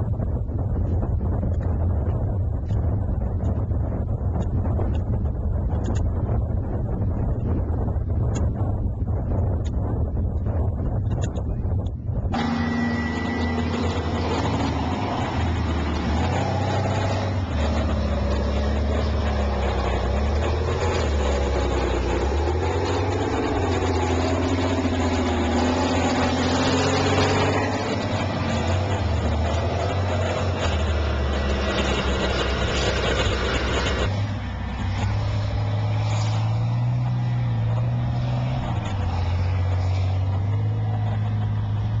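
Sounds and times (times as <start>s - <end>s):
tank engine rumbling: 0.0s - 42.0s
wavering engine whine: 0.0s - 42.0s.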